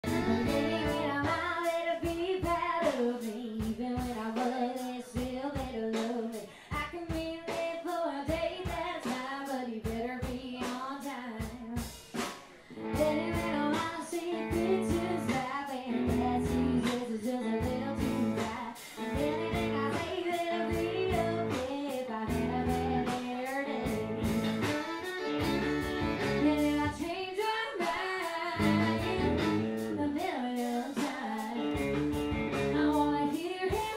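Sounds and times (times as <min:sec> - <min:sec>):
woman singing into a microphone: 0:00.0 - 0:12.1, 0:12.7 - 0:24.4, 0:26.2 - 0:31.8, 0:32.7 - 0:33.9
drum kit steady beat: 0:00.0 - 0:33.9
guitar: 0:00.0 - 0:33.9.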